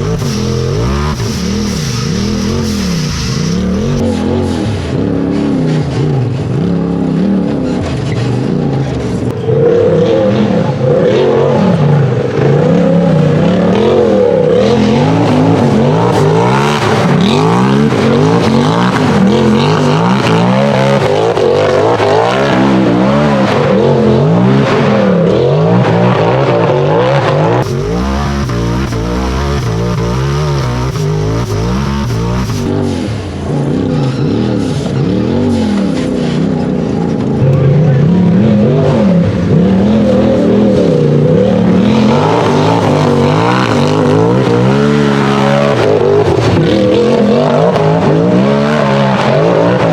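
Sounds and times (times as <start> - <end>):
buggy engine revving hard: 0.0 - 49.9.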